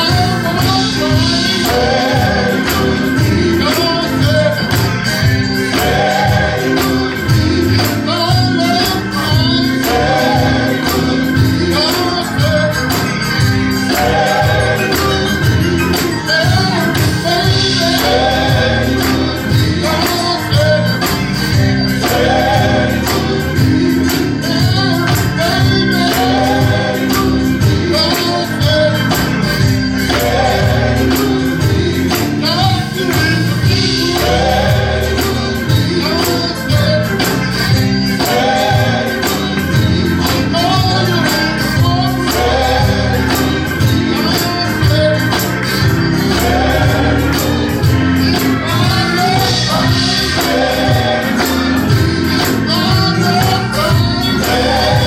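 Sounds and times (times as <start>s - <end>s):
percussion beat: 0.0s - 55.0s
sustained bass: 0.0s - 55.0s
voices singing gospel: 0.0s - 55.0s.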